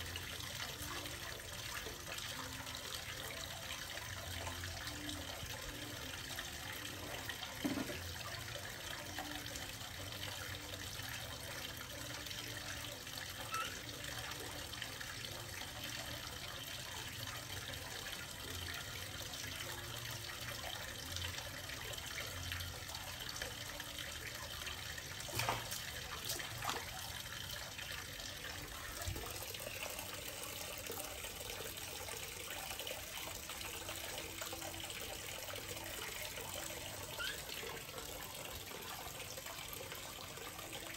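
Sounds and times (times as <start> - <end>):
water running from a tap: 0.0 - 40.9.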